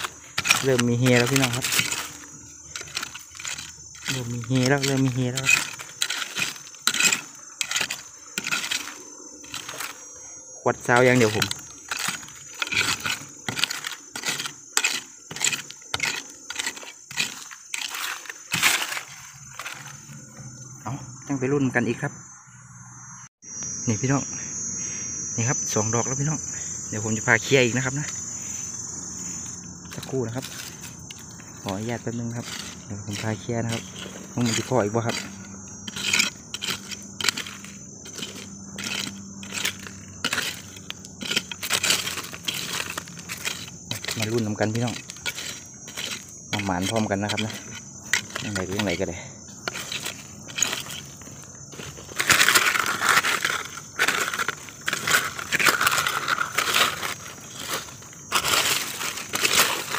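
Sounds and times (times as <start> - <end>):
grit scattering: 0.0 - 20.6, 29.2 - 59.9
metal rod scraping gravelly soil: 0.0 - 20.7, 27.1 - 59.9.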